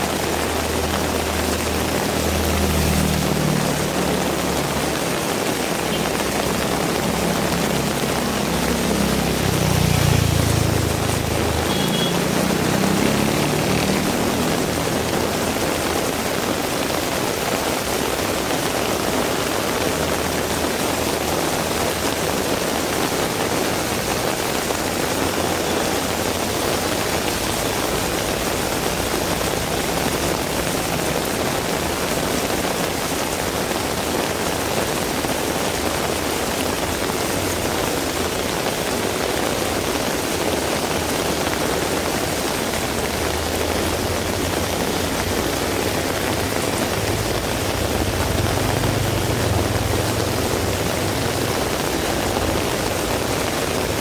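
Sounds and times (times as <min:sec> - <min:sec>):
heavy rain: 0:00.0 - 0:54.0
passing vehicle engine hum: 0:00.0 - 0:54.0.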